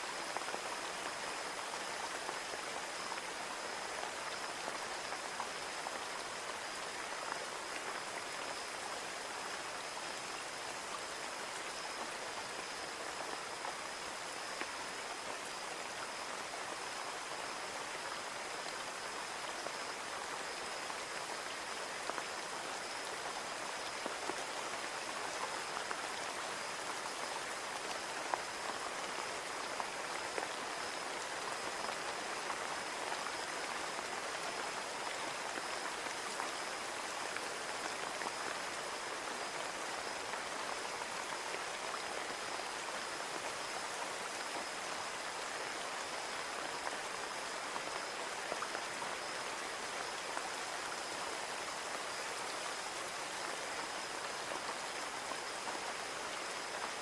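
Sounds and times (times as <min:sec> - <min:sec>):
rain on a window: 0:00.1 - 0:57.0.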